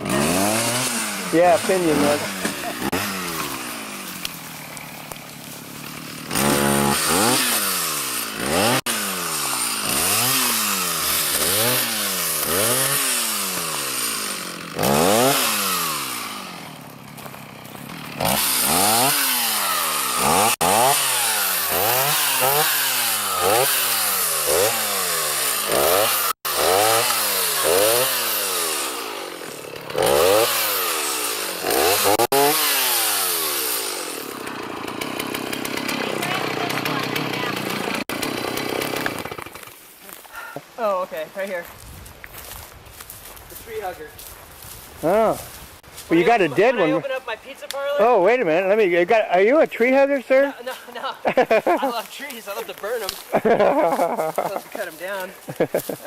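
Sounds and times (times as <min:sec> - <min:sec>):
chainsaw revving: 0:00.0 - 0:40.5, 0:45.0 - 0:47.2, 0:47.9 - 0:56.0.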